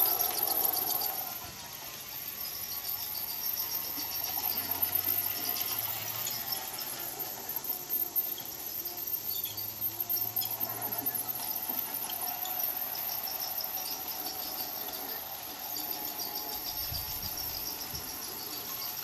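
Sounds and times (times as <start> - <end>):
high squeaks of model train: 0.0 - 19.0
model train motor whir: 0.0 - 19.0.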